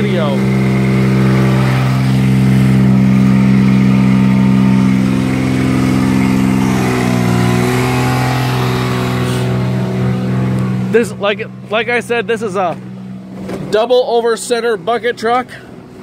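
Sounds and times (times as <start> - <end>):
motor idling: 0.0 - 14.3.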